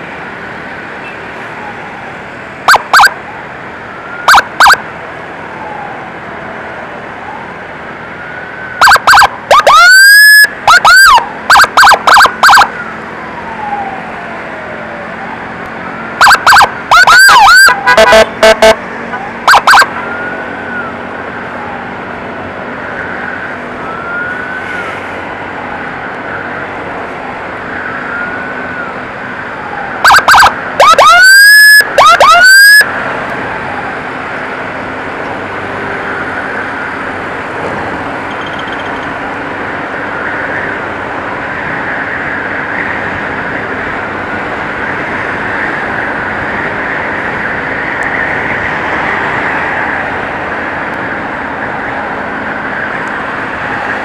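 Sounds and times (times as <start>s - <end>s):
emergency siren wailing: 0.0s - 54.0s
road and wind noise: 0.0s - 54.0s
loud siren blasts: 1.3s - 54.0s.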